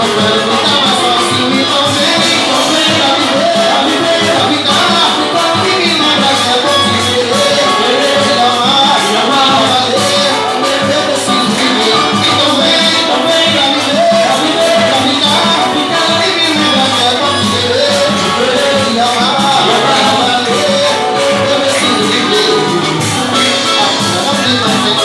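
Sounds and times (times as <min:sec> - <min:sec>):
live band playing latin music: 0:00.0 - 0:25.0.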